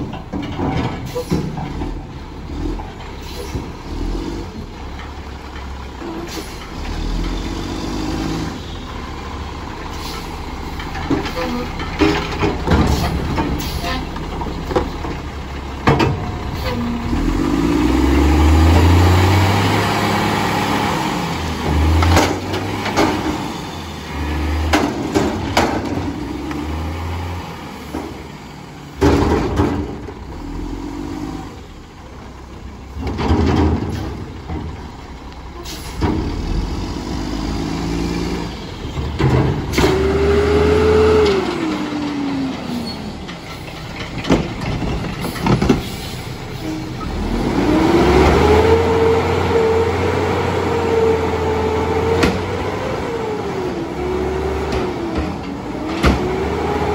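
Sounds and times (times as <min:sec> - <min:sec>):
diesel engine revving: 0:00.0 - 0:56.9.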